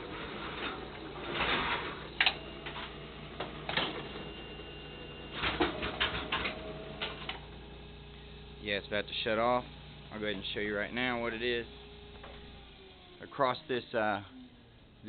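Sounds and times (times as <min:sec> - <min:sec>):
machine steady hum: 0:00.0 - 0:15.0.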